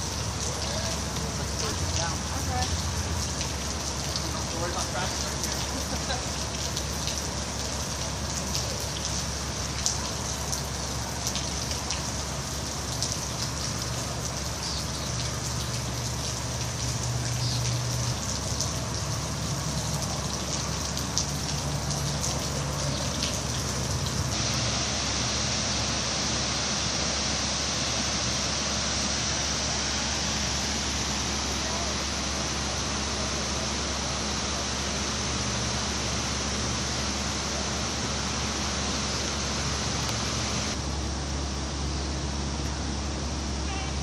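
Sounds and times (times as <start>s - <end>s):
rain pattering on water: 0.0s - 44.0s.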